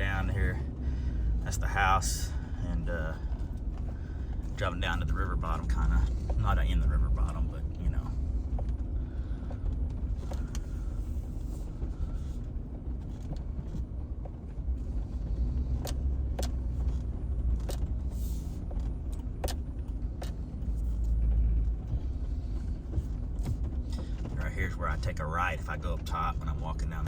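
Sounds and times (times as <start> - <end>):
loose items rattling in cab: 0.0 - 27.0
vehicle rumbling over rough ground: 0.0 - 27.0.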